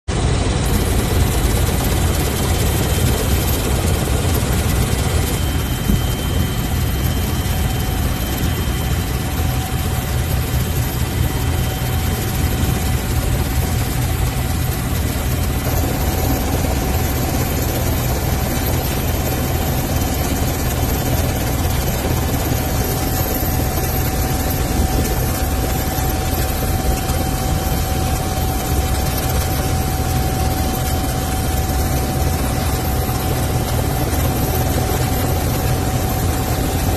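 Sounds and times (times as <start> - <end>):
helicopter engine and rotor: 0.1 - 36.9.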